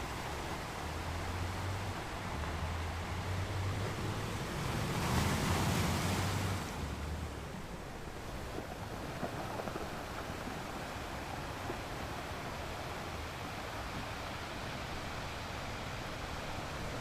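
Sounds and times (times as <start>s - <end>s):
steady hiss of sea: 0.0s - 17.0s
wave breaking and washing in: 0.0s - 17.0s.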